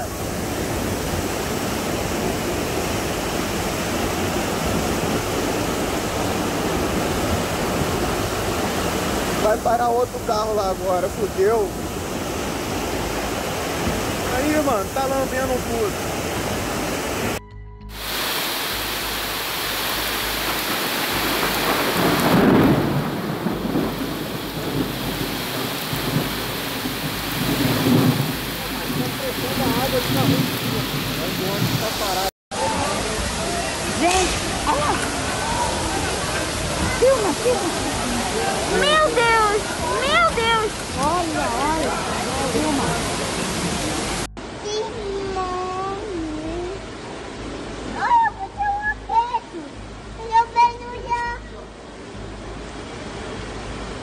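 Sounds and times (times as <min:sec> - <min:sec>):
floodwater rushing: 0:00.0 - 0:54.0
torrential rain: 0:00.0 - 0:54.0.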